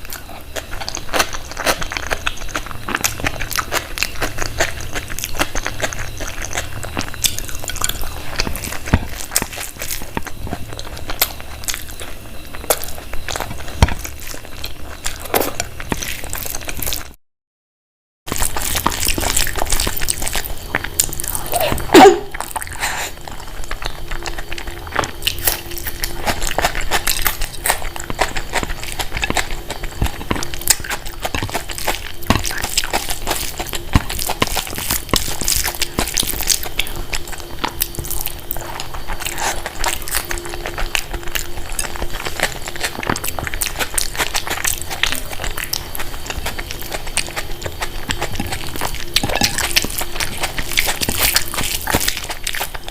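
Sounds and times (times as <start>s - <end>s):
chewing and mouth clicks: 0.0s - 17.2s, 18.3s - 52.9s.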